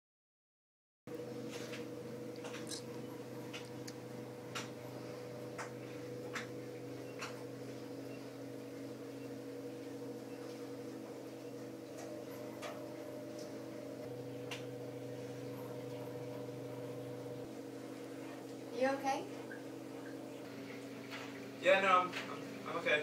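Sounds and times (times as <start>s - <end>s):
electrical hum: 1.1s - 23.0s.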